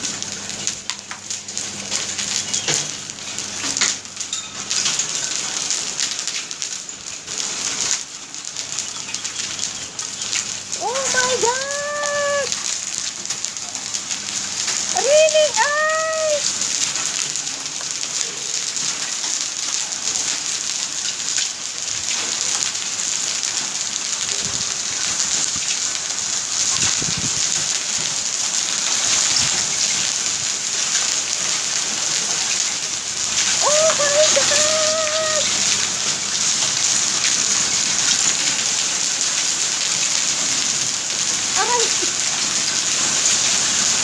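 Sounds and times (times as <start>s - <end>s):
heavy rain and hail on paving: 0.0s - 44.0s.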